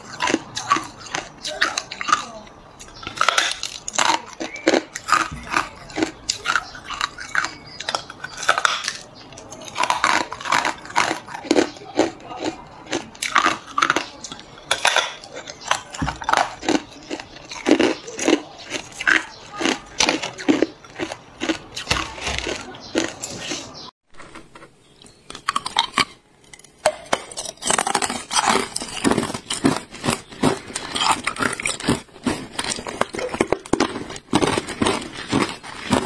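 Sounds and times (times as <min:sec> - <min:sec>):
ice crunching and cracking: 0:00.0 - 0:36.0.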